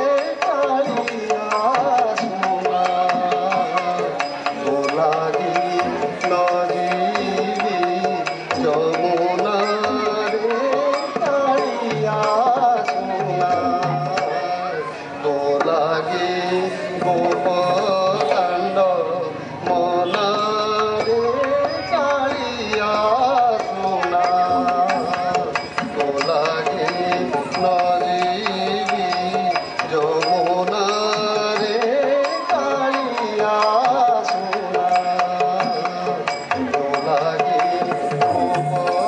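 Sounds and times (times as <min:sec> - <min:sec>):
person singing wavering melody: 0:00.0 - 0:39.0.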